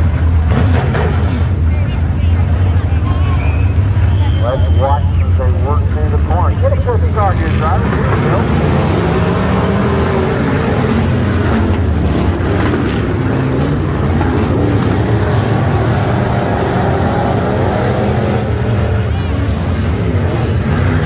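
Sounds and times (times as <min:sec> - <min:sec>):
race car engines roaring: 0:00.0 - 0:21.0.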